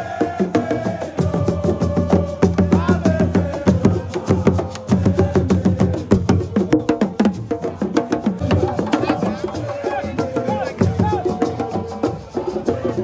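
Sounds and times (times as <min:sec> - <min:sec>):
fast hand drumming: 0:00.1 - 0:13.0.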